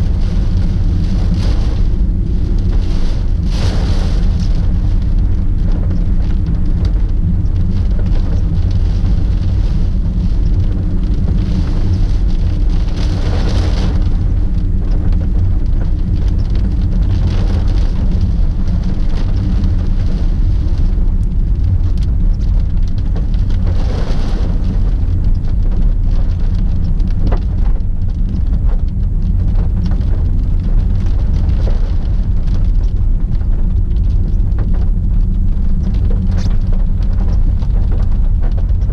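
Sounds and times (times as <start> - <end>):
rain hitting a car: 0.0 - 38.9
road and wind noise: 0.0 - 38.9.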